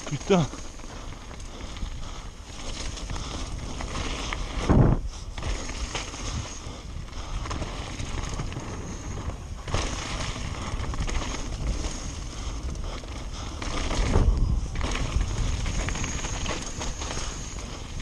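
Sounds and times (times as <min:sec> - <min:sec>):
bike rattling and clicking: 0:00.0 - 0:18.0
bike tyres crunching on gravel: 0:00.0 - 0:18.0
wind on microphone: 0:01.6 - 0:18.0.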